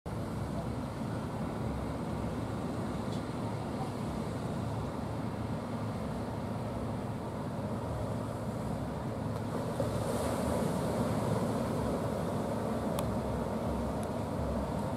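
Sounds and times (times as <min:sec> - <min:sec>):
ocean surf breaking: 0:00.1 - 0:14.9.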